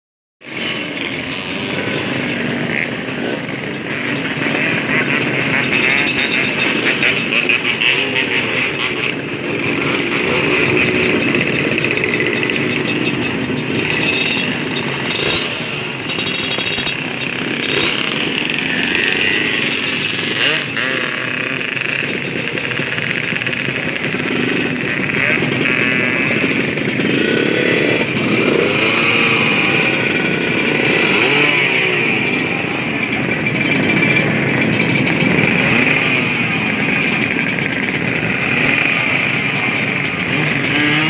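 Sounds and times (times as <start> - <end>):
motorcycle engines revving: 0.4 - 41.0.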